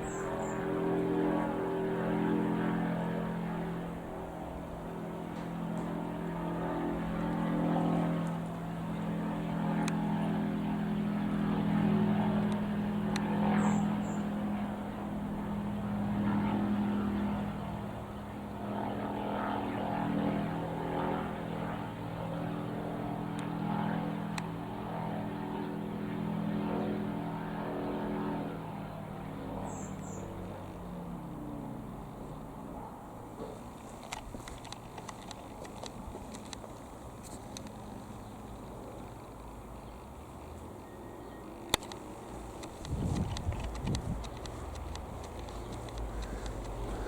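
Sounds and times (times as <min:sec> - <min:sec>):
light aircraft piston engine: 0:00.0 - 0:47.0.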